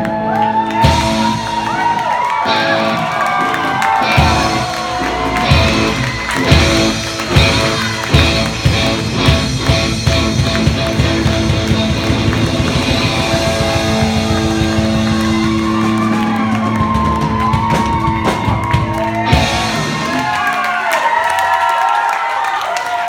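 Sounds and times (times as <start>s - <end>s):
live rock band playing: 0.0s - 20.7s
audience cheering and whistling: 0.0s - 23.0s.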